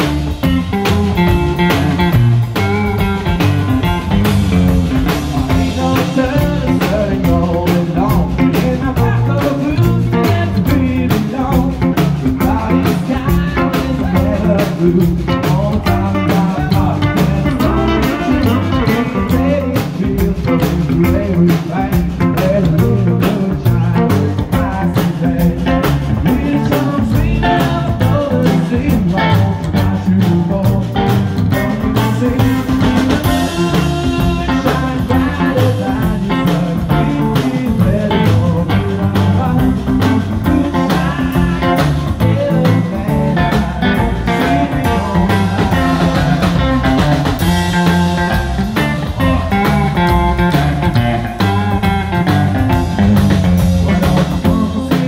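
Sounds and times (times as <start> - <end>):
drum kit fast beat: 0.0 - 55.0
electric guitar: 0.0 - 55.0
upright double bass: 0.0 - 55.0.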